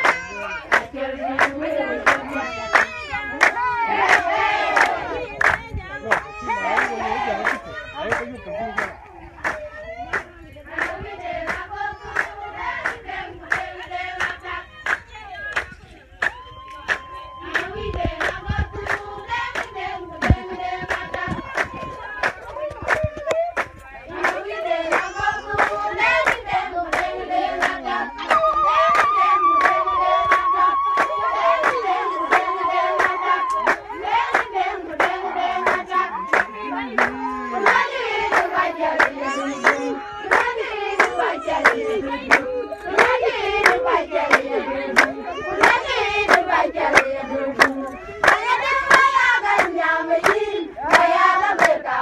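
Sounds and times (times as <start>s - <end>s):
people clapping in a steady beat: 0.0s - 52.0s
women singing together: 0.0s - 52.0s.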